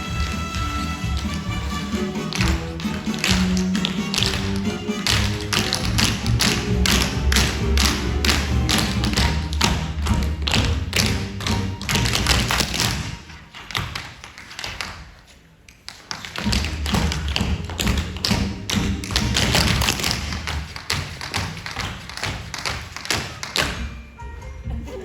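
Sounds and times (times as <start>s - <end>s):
music: 0.0s - 13.4s, 16.3s - 25.0s
tap shoes striking floor: 0.2s - 15.1s, 15.9s - 24.0s.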